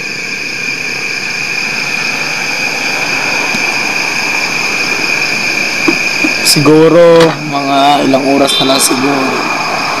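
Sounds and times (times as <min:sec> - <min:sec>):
insects droning: 0:00.0 - 0:10.0
road traffic noise: 0:00.0 - 0:10.0.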